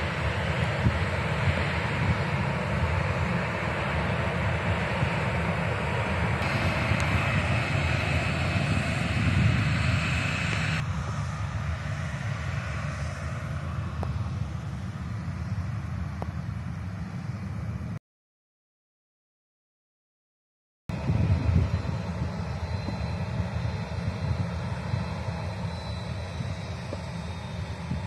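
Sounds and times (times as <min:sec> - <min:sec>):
jet engines rumbling and whining: 0:00.0 - 0:18.0, 0:20.9 - 0:28.0.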